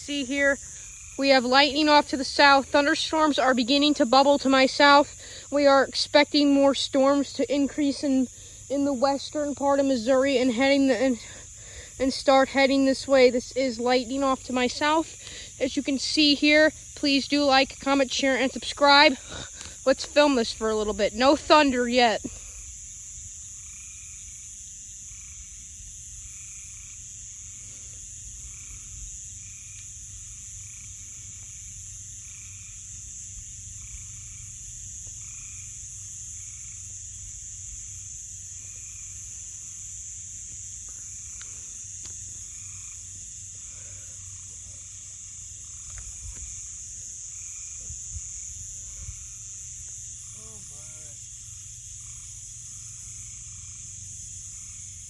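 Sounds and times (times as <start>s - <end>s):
repeated frog call: 0.0s - 22.6s, 26.2s - 37.2s, 40.9s - 55.0s
high-pitched insect drone: 0.0s - 55.0s.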